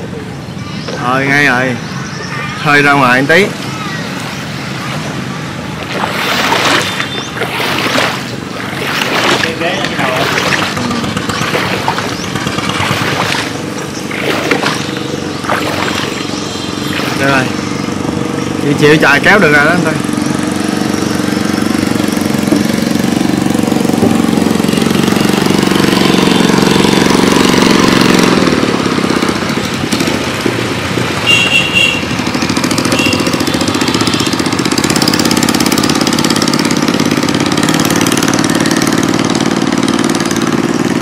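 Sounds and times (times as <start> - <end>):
small boat engine running: 2.8 - 41.0.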